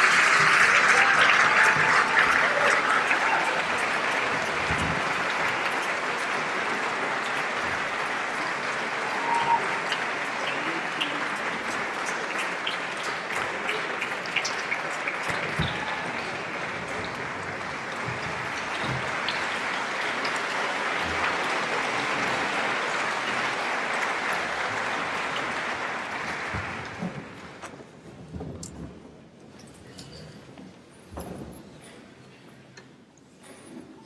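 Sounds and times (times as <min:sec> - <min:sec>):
audience applauding: 0:00.0 - 0:27.7.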